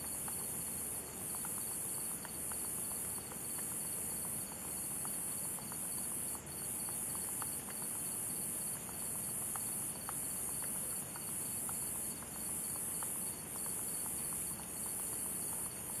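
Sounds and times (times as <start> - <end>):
cricket-like trill: 0.0 - 16.0.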